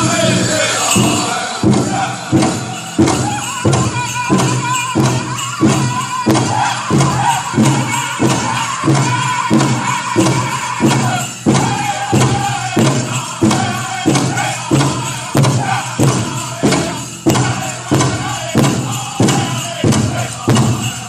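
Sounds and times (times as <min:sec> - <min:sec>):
big drum steady beat: 0:00.0 - 0:21.0
high voices singing: 0:00.0 - 0:21.0.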